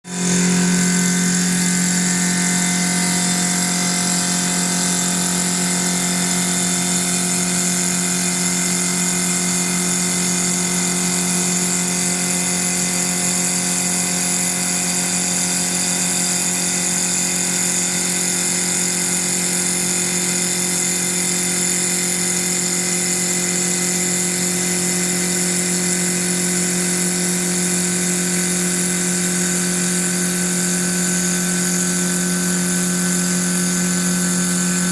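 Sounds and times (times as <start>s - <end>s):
wood lathe running: 0.0s - 34.9s.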